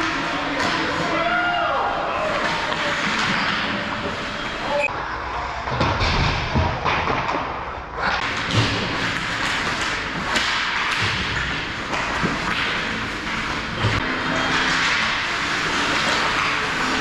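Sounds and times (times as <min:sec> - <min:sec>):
knocks of sticks and puck: 0:00.0 - 0:01.5, 0:02.3 - 0:04.6, 0:05.7 - 0:07.6, 0:08.2 - 0:17.0.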